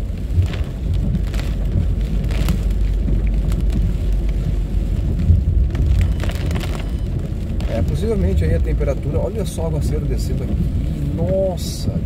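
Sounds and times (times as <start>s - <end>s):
engine rumble: 0.0s - 12.0s
tyres on wet asphalt: 0.0s - 12.0s.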